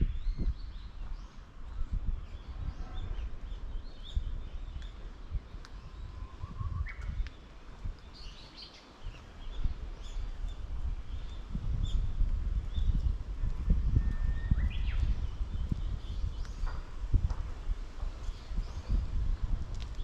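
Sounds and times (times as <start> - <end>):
small birds chirping: 0.0 - 17.4.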